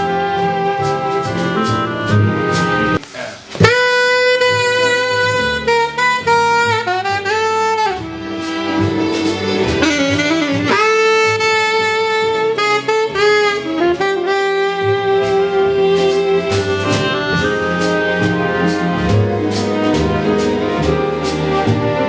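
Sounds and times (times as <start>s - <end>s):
saxophone long held notes: 0.0s - 3.0s, 3.6s - 20.0s
jazz accompaniment: 0.0s - 22.0s.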